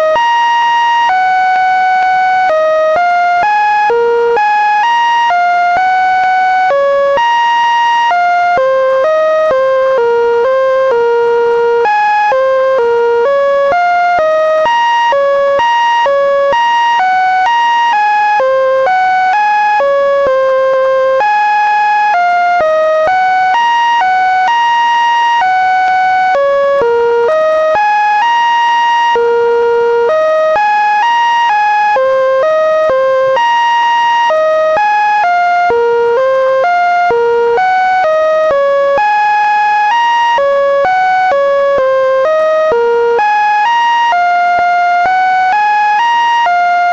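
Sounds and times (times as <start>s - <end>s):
buzzy synthesized electronic notes: 0.0s - 46.9s.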